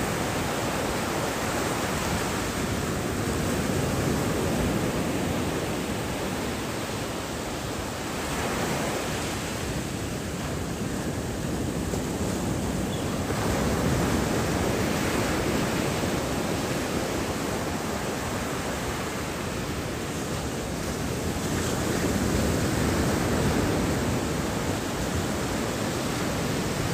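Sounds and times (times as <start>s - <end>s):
ocean surf breaking on shore: 0.0s - 26.9s.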